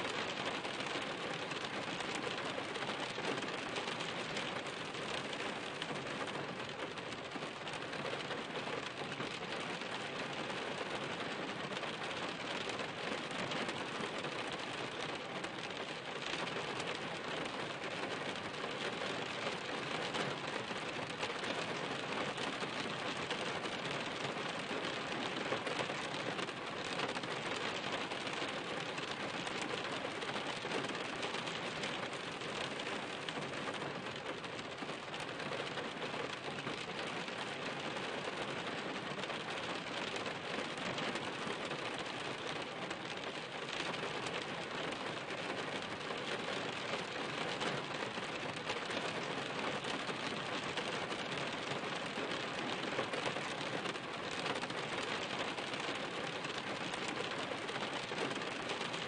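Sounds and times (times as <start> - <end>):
rain on a hard surface: 0.0 - 59.0.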